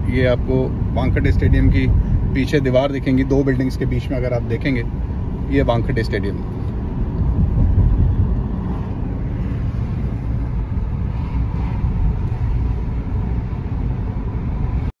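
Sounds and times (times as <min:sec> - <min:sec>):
car cabin rumble: 0:00.0 - 0:14.9.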